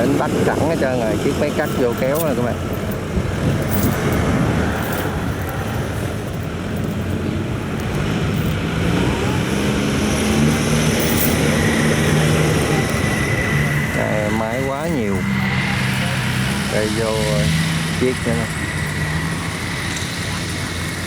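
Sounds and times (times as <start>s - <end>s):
diesel engine running hard: 0.0s - 21.0s.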